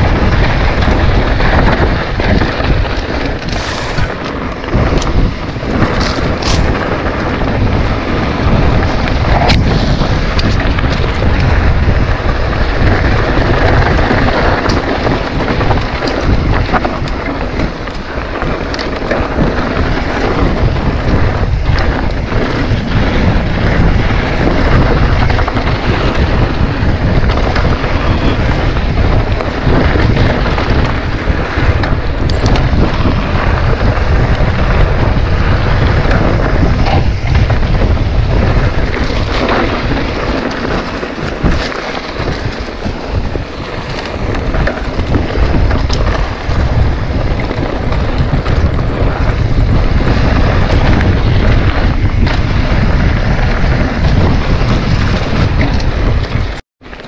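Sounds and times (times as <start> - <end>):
bike knocking over bumps: 0.0 - 56.6
tyres rumbling on dirt trail: 0.0 - 57.0
wind buffeting microphone: 0.0 - 57.0.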